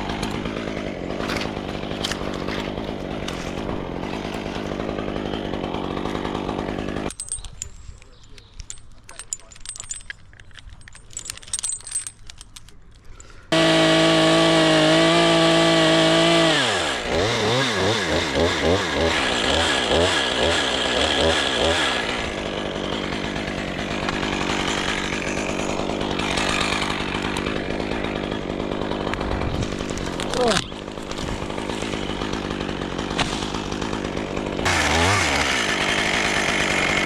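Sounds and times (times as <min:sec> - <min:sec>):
chainsaw cutting wood: 0:00.0 - 0:07.3, 0:13.5 - 0:37.0.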